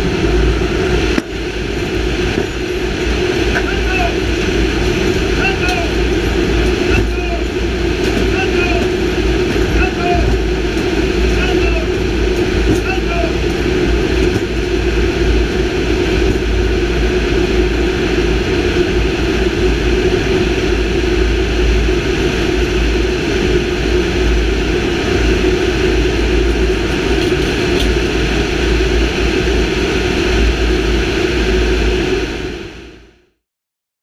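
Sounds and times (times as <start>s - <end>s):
wind rushing: 0.0s - 32.1s
turboprop engines droning: 0.0s - 33.2s.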